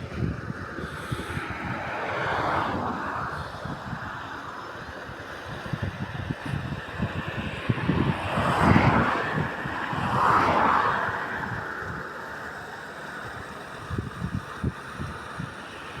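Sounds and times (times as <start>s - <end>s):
road vehicles passing: 0.0s - 16.0s
wind buffeting microphone: 0.0s - 16.0s.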